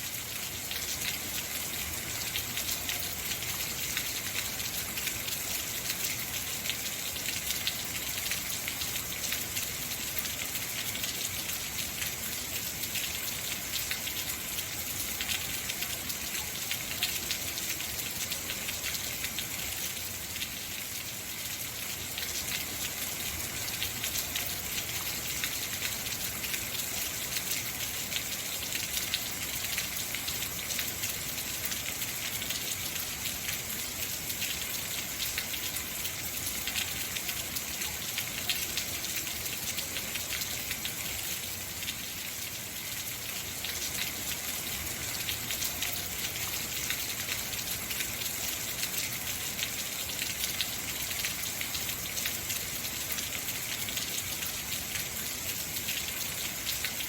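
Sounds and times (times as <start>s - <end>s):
heavy rain on hard surfaces: 0.0s - 57.0s.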